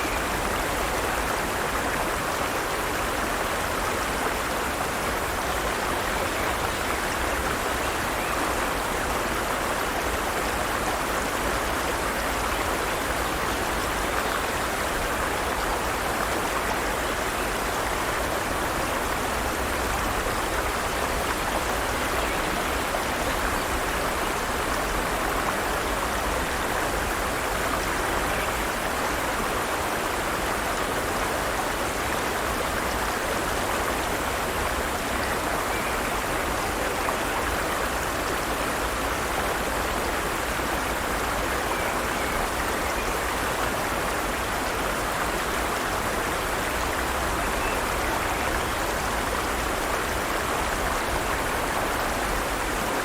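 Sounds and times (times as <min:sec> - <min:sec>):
stream babbling over rocks: 0:00.0 - 0:53.0.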